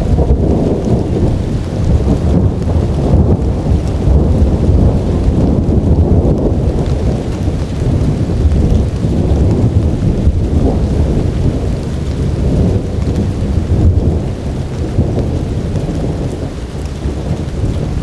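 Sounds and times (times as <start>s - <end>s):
heavy rain: 0.0s - 18.0s
rumble of thunder: 0.0s - 18.0s.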